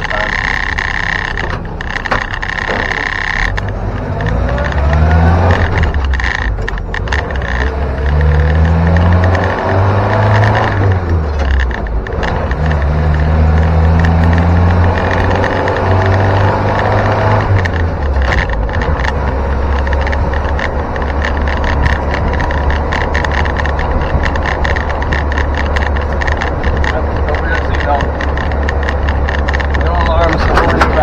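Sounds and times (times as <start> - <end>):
car engine running: 0.0 - 31.0
rattles clattering: 0.0 - 31.0.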